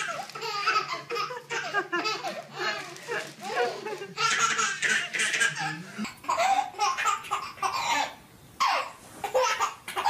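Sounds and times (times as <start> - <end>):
baby laughing and squealing: 0.0 - 10.0.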